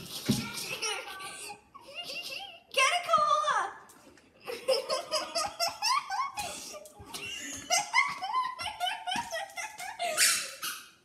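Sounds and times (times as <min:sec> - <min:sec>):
child giggling: 0:00.0 - 0:02.7, 0:04.4 - 0:11.0.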